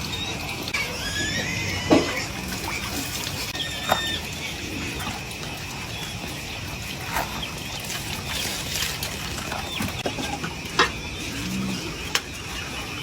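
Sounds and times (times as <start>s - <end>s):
rain and running water: 0.0s - 13.0s.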